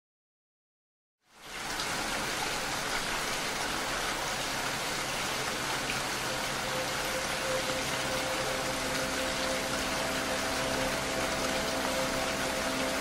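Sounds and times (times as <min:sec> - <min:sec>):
heavy rain: 0:01.2 - 0:13.0.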